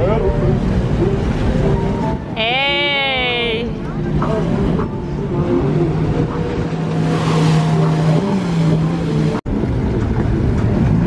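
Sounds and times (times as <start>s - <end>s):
motorboat engine running: 0.0s - 2.8s, 3.7s - 11.0s
rushing water: 0.0s - 11.0s.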